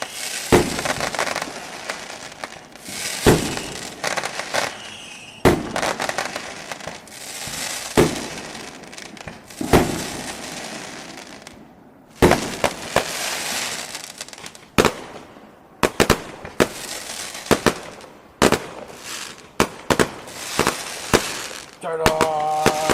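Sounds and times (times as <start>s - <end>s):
fireworks popping: 0.0s - 11.6s, 12.2s - 22.9s
fireworks bangs with fizzing crackle: 0.0s - 22.9s.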